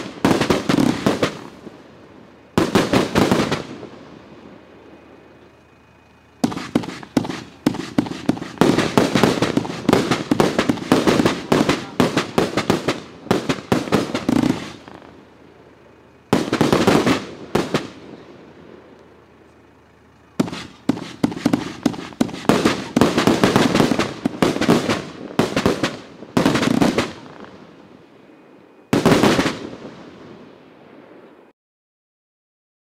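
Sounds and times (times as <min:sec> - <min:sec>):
firework cake firing volleys: 0:00.0 - 0:28.1, 0:28.9 - 0:31.5
firework bursts overhead: 0:00.0 - 0:31.5.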